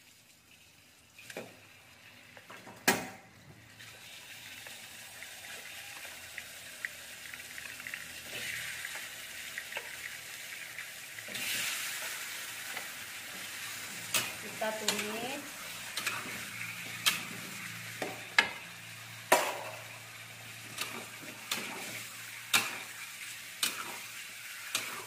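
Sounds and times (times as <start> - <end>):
chicken sizzling in hot oil: 3.6 - 25.0.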